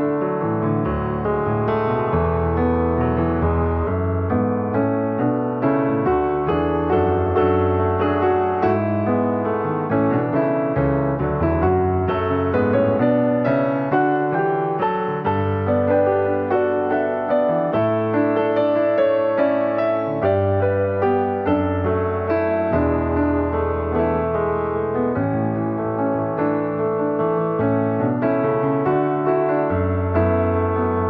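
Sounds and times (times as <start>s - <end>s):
soft piano music: 0.0s - 31.0s.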